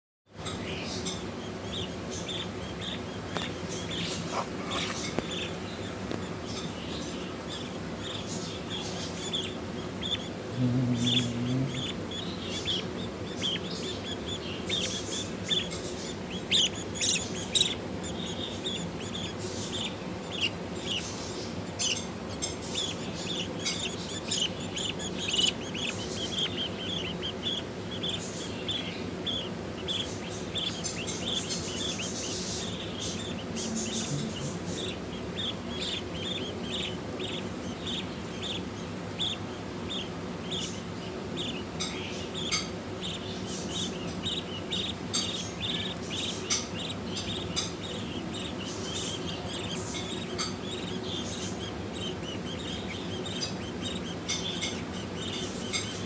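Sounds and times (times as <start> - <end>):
budgies chirping: 0.4 - 56.0.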